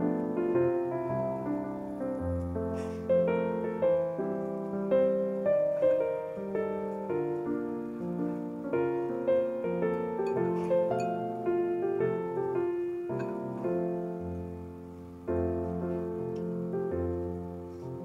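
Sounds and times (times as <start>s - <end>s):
background piano music: 0.0s - 18.0s.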